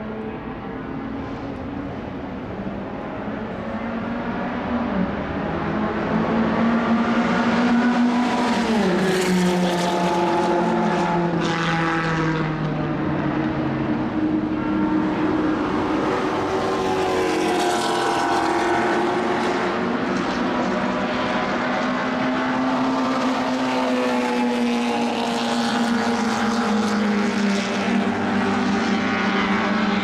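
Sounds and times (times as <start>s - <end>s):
racing car engines running hard: 0.0s - 30.0s.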